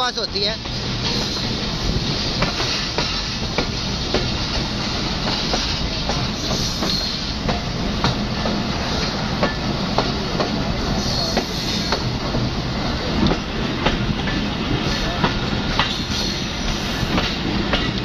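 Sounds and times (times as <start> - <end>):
train rumble and rushing: 0.0 - 18.0
wheels clacking over rail joints: 0.5 - 18.0.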